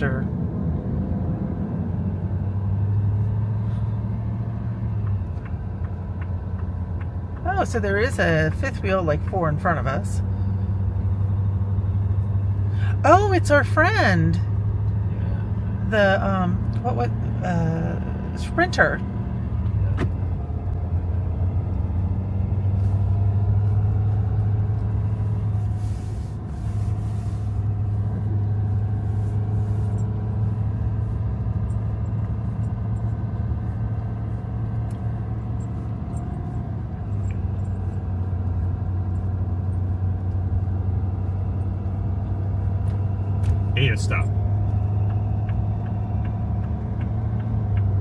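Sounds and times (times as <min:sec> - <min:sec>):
engine and road noise drone: 0:00.0 - 0:48.0.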